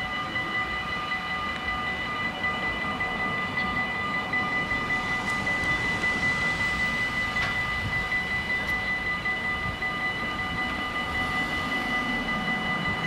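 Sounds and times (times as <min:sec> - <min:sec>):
level crossing bells ringing: 0:00.0 - 0:13.0.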